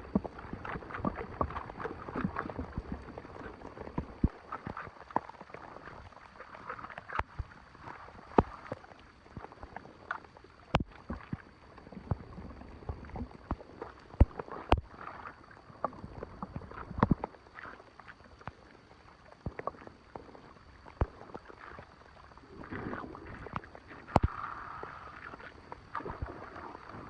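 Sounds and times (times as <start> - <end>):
water splashing: 0.0 - 18.1, 20.9 - 27.0
water flowing: 0.0 - 27.0.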